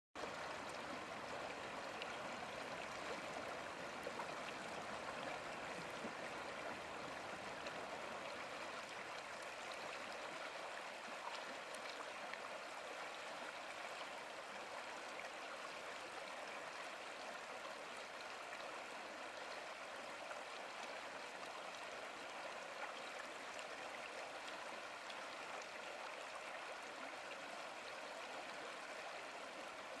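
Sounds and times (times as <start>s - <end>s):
stream water rushing over rocks: 0.2s - 30.0s.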